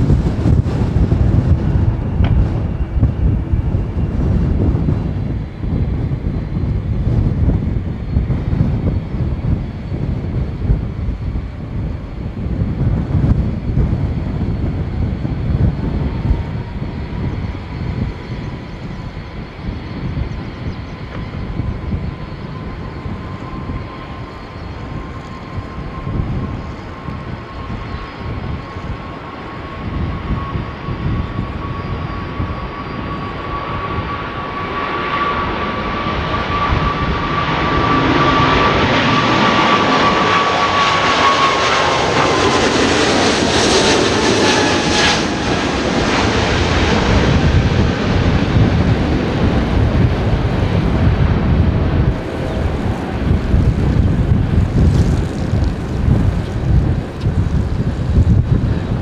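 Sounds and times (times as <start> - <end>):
jet engines whining: 0.0 - 59.0
wind gusts on microphone: 0.0 - 59.0.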